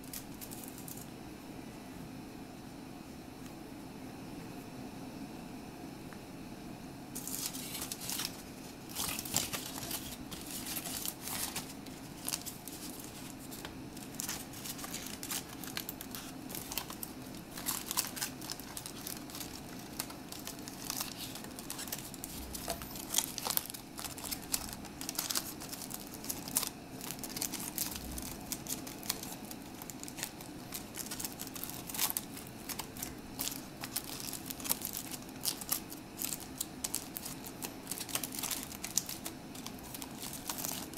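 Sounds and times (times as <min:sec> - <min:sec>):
foil wrapper crinkling: 0:00.0 - 0:01.0, 0:07.2 - 0:40.9.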